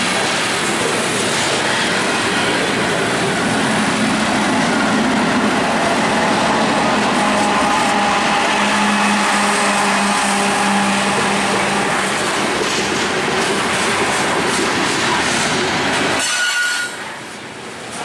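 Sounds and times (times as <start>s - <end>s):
train wheels rolling on rail: 0.0s - 18.0s.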